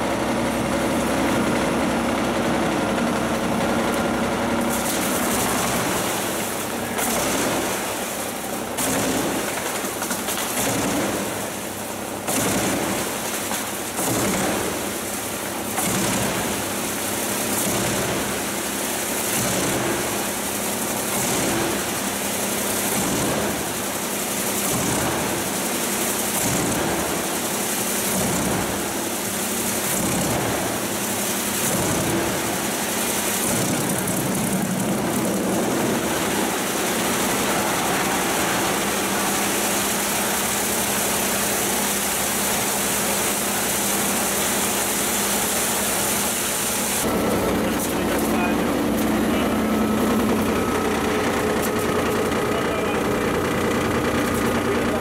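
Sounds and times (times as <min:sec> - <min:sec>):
motor hum: 0:00.0 - 0:55.0
wood chipper grinding: 0:00.0 - 0:55.0.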